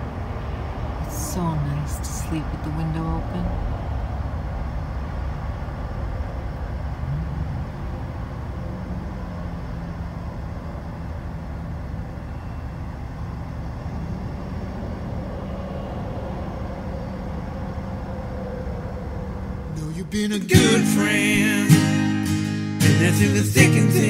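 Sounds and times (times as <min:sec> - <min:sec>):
traffic rumble: 0:00.0 - 0:21.7.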